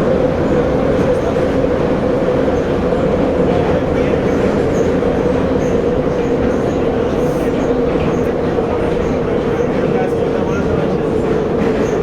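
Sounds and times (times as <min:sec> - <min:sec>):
train wheels rumbling in tunnel: 0:00.0 - 0:12.0.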